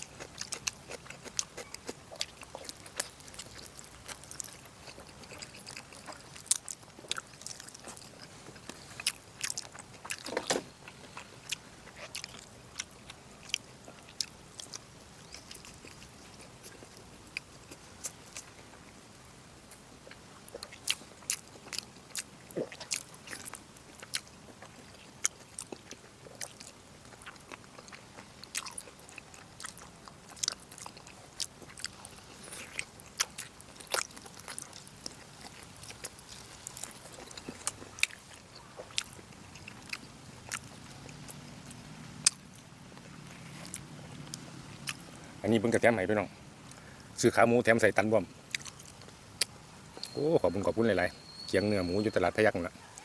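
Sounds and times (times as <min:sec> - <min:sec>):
chewing with wet mouth smacks: 0:00.0 - 0:18.9, 0:19.7 - 0:45.2, 0:48.5 - 0:50.1.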